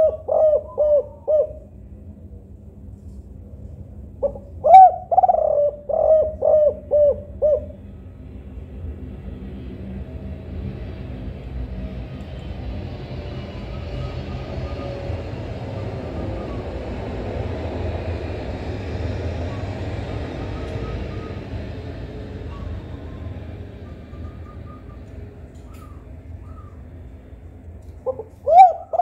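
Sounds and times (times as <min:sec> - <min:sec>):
passing vehicle rumble: 0:00.0 - 0:29.0.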